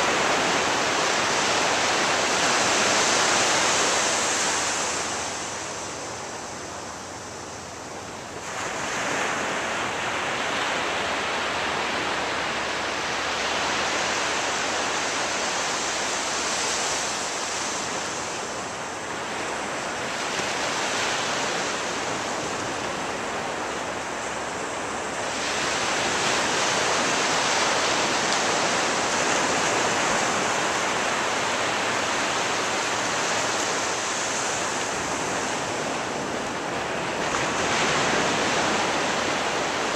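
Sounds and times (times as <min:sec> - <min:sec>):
ocean surf breaking on a beach: 0:00.0 - 0:39.9.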